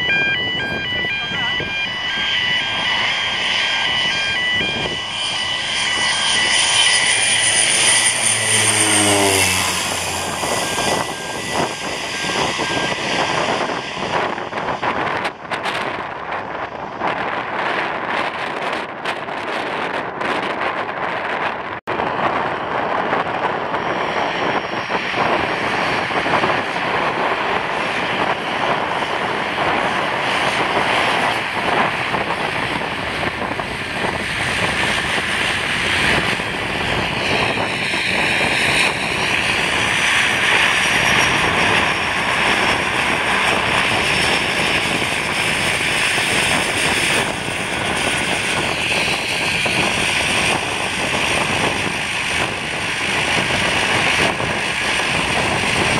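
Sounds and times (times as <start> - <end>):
turboprop aircraft taxiing: 0.0 - 55.9.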